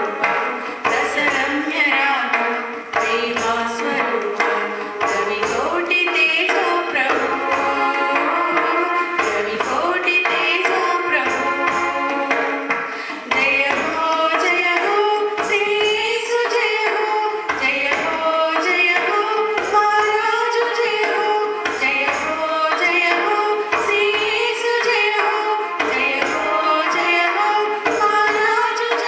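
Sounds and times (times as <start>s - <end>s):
rhythmic percussion: 0.0s - 29.0s
women singing together: 0.0s - 29.0s.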